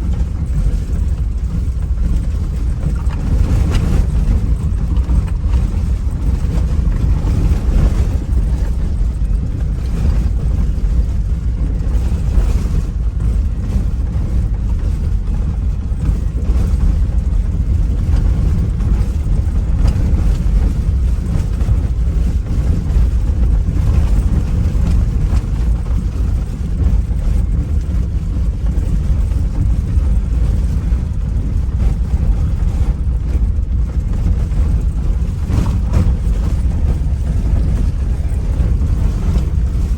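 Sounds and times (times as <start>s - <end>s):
motorboat engine running: 0.0s - 39.9s
wind buffeting microphone: 0.0s - 39.9s.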